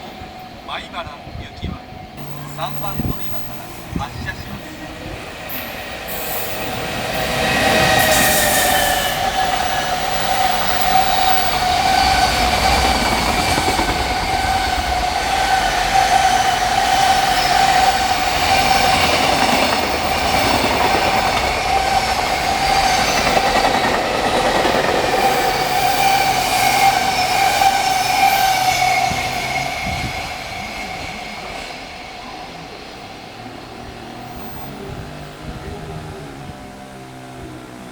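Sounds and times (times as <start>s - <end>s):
freight train rumbling past: 0.0s - 37.9s.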